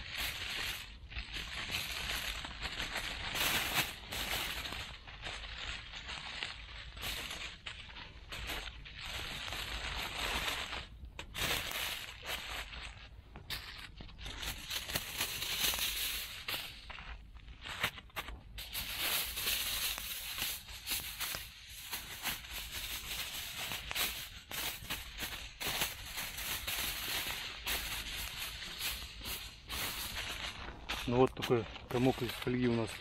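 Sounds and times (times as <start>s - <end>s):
aluminium foil crumpling: 0.0s - 33.0s.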